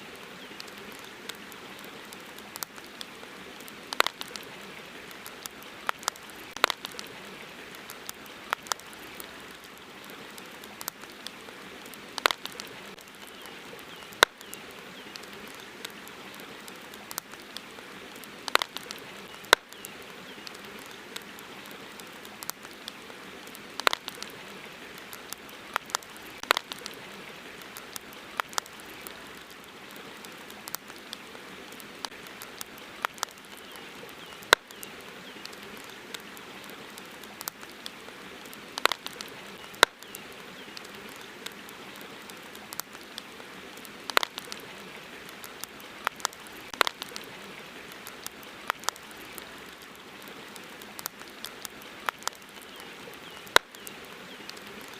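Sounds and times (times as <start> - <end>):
campfire crackling and snapping: 0.0 - 54.9
soft steady hiss: 0.0 - 54.9.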